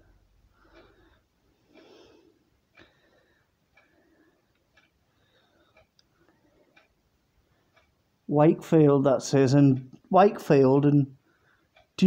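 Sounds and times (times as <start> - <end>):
wall clock ticking: 0.0 - 12.0.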